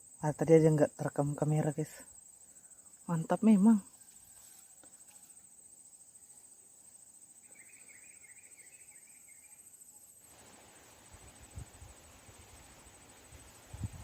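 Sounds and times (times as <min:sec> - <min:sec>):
insect trilling: 0:00.0 - 0:11.8.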